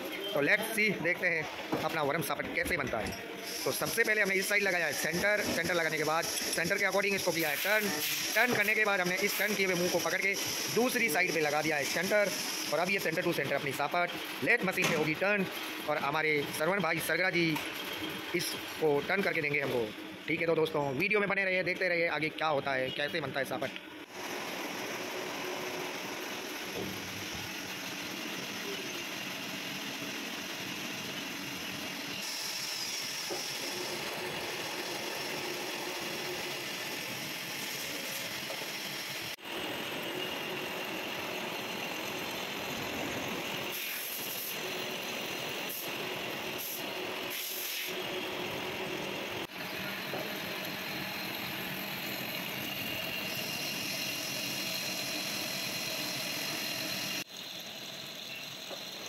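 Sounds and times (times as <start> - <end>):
lathe gears whirring: 1.9 - 20.4, 24.0 - 59.0.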